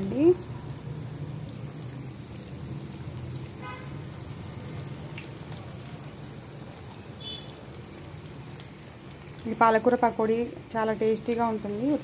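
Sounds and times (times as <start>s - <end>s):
oil sizzling in deep frying: 0.0s - 12.0s.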